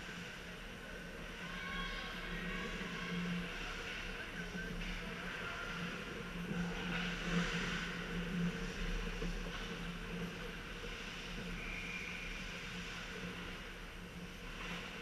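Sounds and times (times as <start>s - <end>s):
steady low hum: 2.0s - 15.0s.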